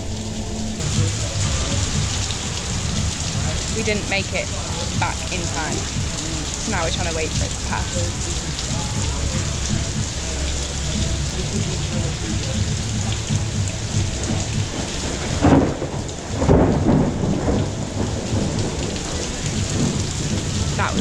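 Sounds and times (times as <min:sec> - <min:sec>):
heavy rain: 0:00.0 - 0:21.0
thunder rumbling: 0:00.0 - 0:21.0.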